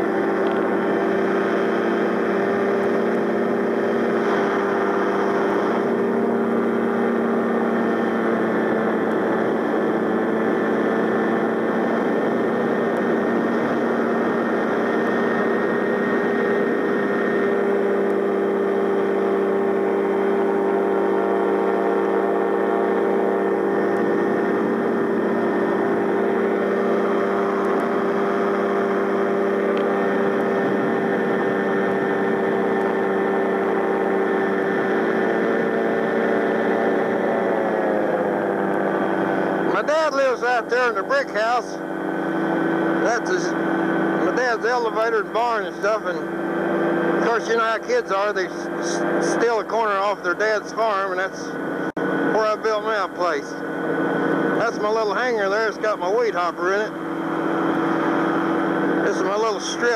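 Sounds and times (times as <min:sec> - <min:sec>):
aircraft engine drone: 0:00.0 - 0:59.9.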